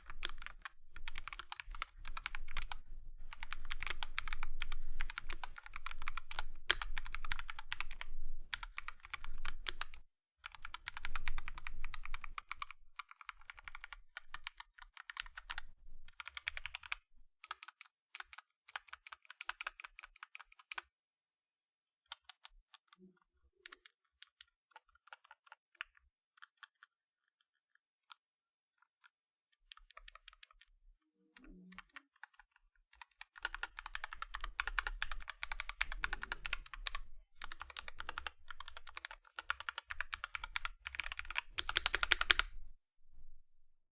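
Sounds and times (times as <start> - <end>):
typing on mechanical keyboard: 0.0 - 20.9, 22.1 - 26.9, 29.6 - 30.7, 31.4 - 42.5.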